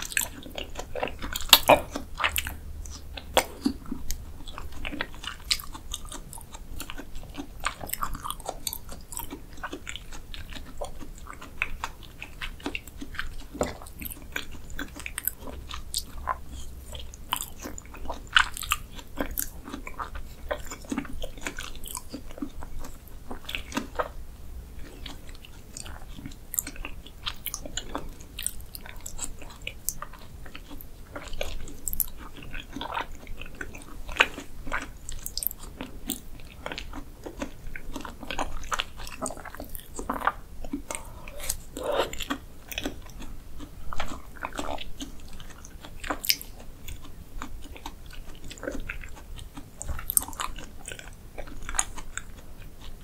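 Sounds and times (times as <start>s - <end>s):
mouth clicks and squelches: 0.0s - 53.0s
wet chewing and slurping: 0.0s - 53.0s.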